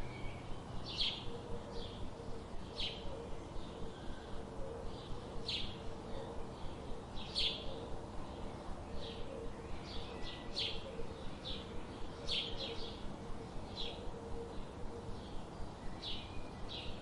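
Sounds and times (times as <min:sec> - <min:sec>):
faint low hum: 0:00.0 - 0:17.0
small birds chirping: 0:00.0 - 0:17.0.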